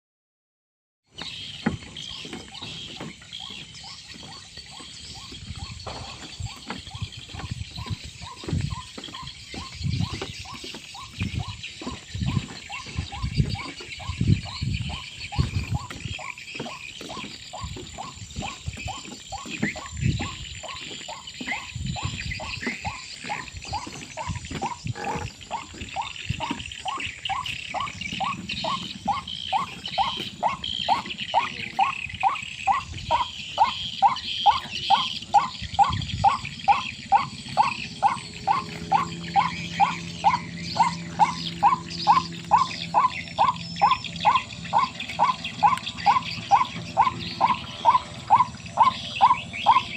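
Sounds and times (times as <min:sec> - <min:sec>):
waterhen croaking calls: 0:01.2 - 0:49.9.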